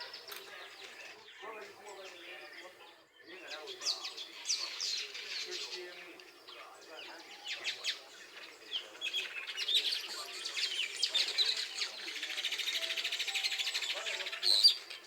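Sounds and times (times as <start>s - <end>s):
weaver birds chirping: 0.0s - 15.0s.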